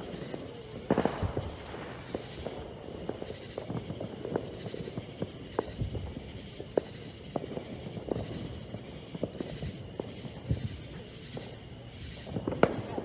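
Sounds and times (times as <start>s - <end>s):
distant fireworks popping: 0.0s - 13.0s
night insects chirping: 0.0s - 13.0s.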